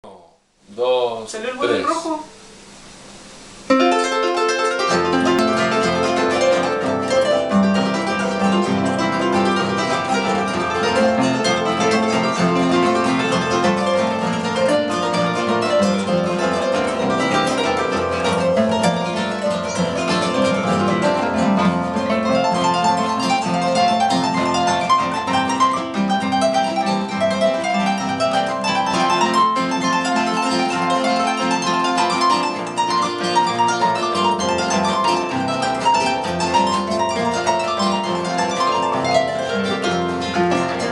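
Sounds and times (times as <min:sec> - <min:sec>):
harp melody: 0:03.6 - 0:40.9.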